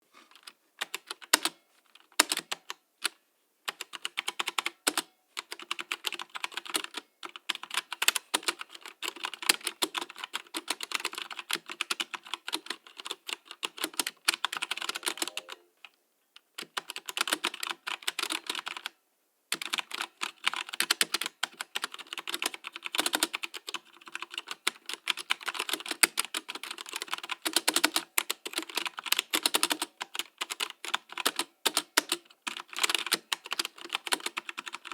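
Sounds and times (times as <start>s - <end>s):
typing on mechanical keyboard: 0.3s - 15.6s, 16.6s - 19.0s, 19.6s - 34.9s.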